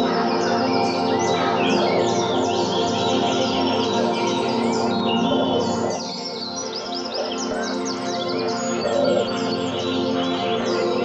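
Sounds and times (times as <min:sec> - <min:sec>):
birds chirping and trilling: 0:00.0 - 0:11.0
soft relaxation music: 0:00.0 - 0:11.0.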